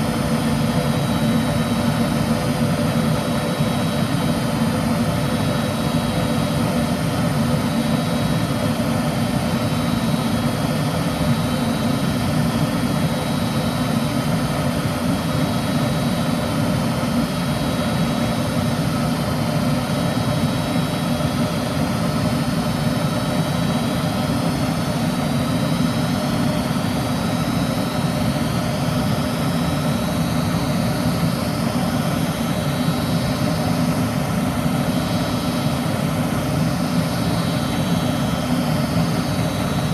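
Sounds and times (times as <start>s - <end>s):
gas furnace rushing: 0.0s - 39.9s.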